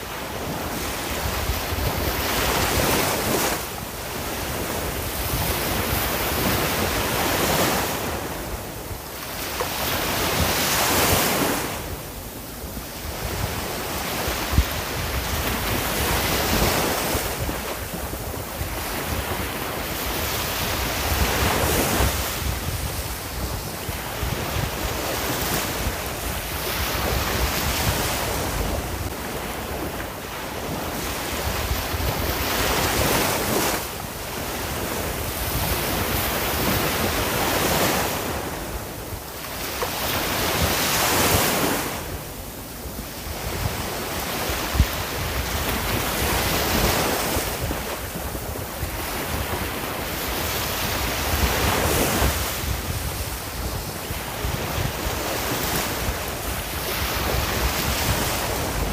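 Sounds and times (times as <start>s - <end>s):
sea waves breaking: 0.0s - 58.9s
wind rumble on microphone: 0.0s - 58.9s.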